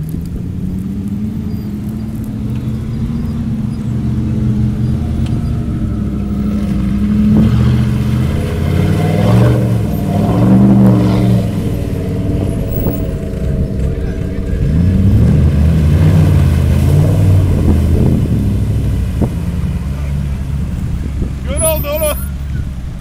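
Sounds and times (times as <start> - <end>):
engine revving: 0.0 - 23.0
water splashing from tyres: 0.0 - 23.0.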